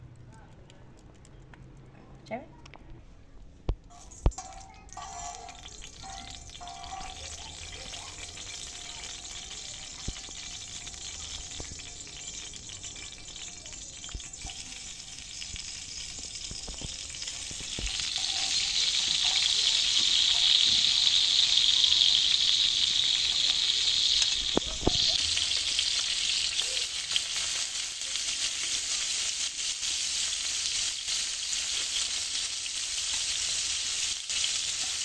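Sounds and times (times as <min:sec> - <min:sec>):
oil sizzling on griddle: 0:03.9 - 0:35.0.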